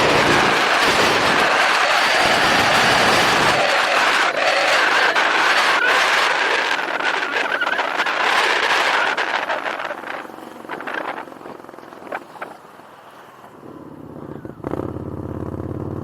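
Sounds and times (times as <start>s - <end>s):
motorcycle engine running: 0.0s - 12.5s, 13.6s - 16.0s
wind rushing over microphone: 0.0s - 12.8s.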